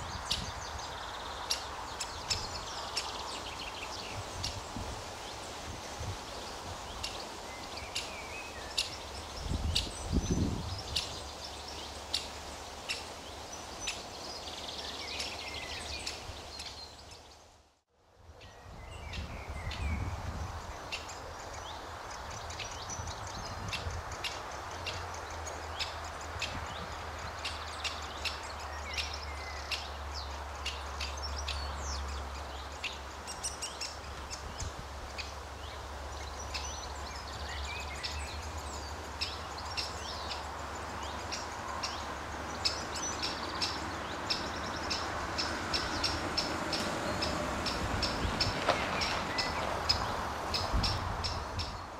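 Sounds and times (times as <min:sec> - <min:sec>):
small birds singing: 0:00.0 - 0:17.7, 0:18.3 - 0:51.9.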